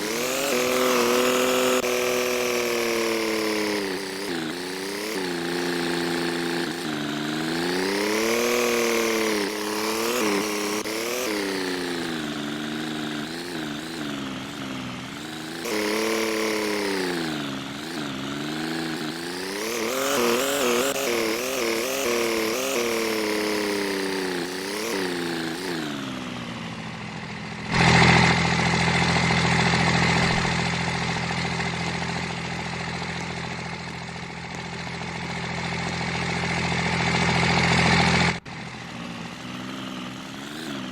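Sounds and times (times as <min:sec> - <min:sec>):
engine revving: 0:00.0 - 0:40.9
rough steady engine: 0:00.0 - 0:40.9.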